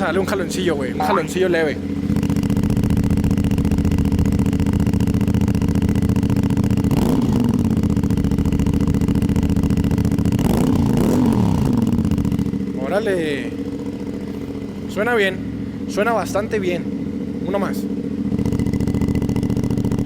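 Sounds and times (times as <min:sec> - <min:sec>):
motorcycle engine idling: 0:00.0 - 0:20.0
motorcycle throttle blips: 0:00.0 - 0:20.0.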